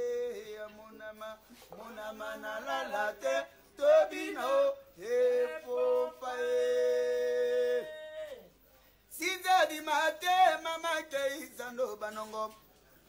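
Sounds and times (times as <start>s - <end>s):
man singing unaccompanied: 0.0s - 8.5s, 9.1s - 12.6s.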